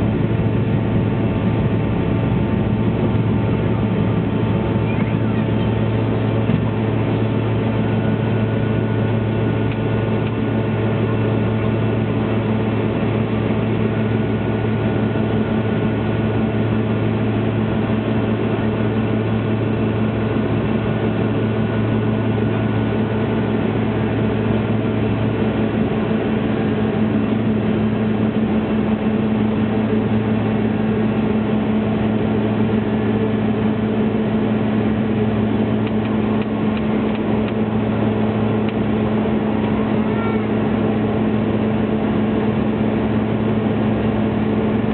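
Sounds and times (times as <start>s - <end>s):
constant low hum: 0.0s - 44.9s
jet engine and airflow drone: 0.0s - 44.9s.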